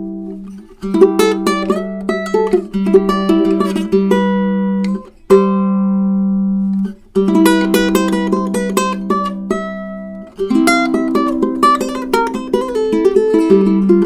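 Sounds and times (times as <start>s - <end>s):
ukulele picking: 0.0s - 14.0s.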